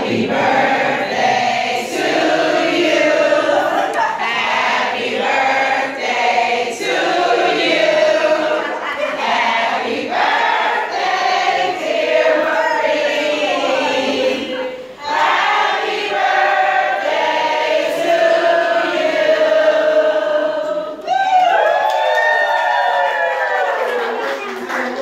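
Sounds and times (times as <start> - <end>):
crowd singing in chorus: 0.0 - 21.0.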